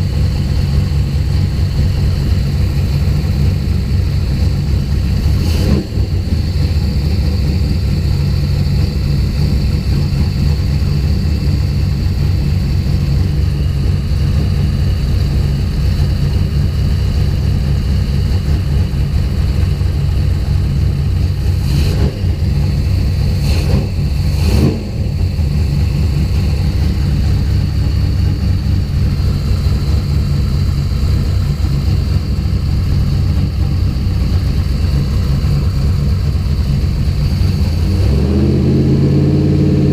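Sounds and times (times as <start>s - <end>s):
car engine rough idle: 0.0s - 39.9s.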